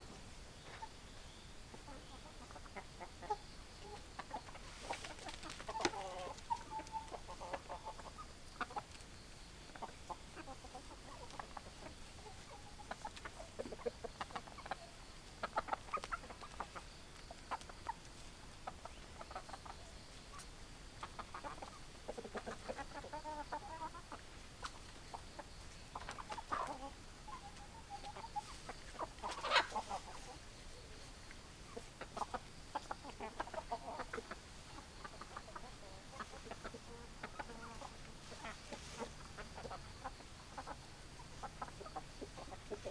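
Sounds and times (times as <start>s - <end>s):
hens clucking: 0.0s - 42.9s.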